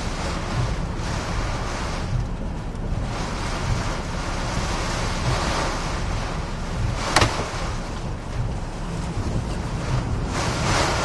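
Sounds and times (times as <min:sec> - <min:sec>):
hurricane wind buffeting: 0:00.0 - 0:11.0
wind-driven rain: 0:00.0 - 0:11.0.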